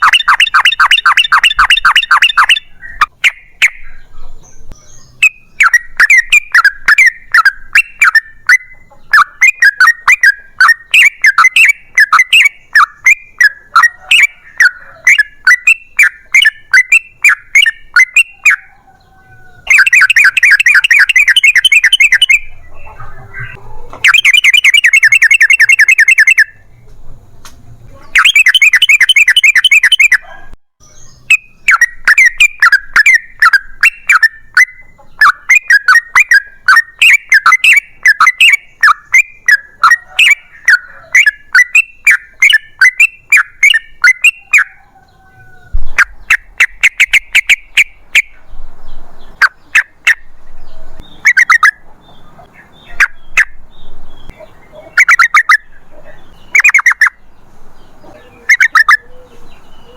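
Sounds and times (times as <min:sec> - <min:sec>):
bird chattering notes: 0:00.0 - 0:26.7, 0:27.8 - 0:45.0, 0:45.8 - 0:59.9
bulbul trilling song: 0:00.0 - 0:59.9.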